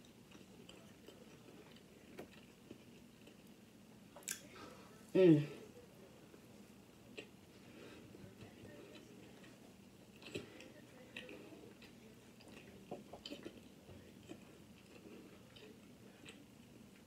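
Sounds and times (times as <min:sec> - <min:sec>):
chewing fried food: 0:00.0 - 0:04.5, 0:06.1 - 0:17.0.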